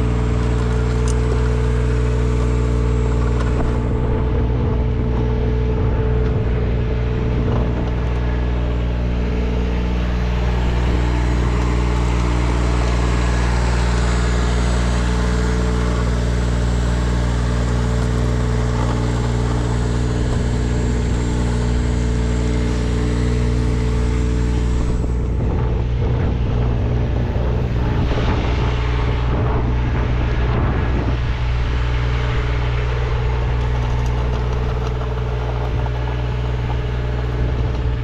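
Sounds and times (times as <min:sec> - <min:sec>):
engine droning steadily: 0:00.0 - 0:38.0.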